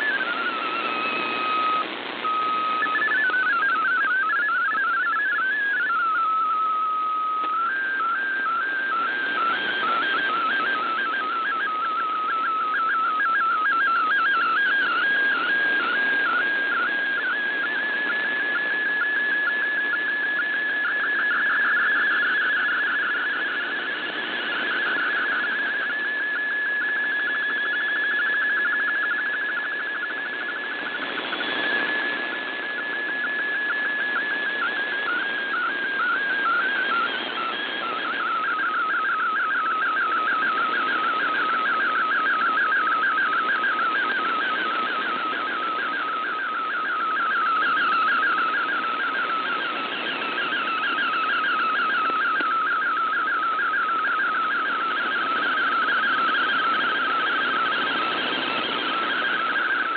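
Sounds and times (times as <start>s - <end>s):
shortwave radio hiss: 0.0s - 59.9s
warbling digital data tone: 0.0s - 59.9s.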